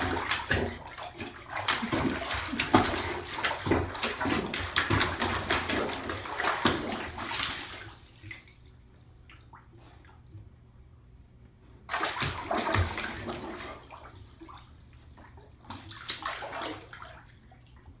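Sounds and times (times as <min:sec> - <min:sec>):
bathwater sloshing and splashing: 0:00.0 - 0:10.6, 0:11.8 - 0:18.0.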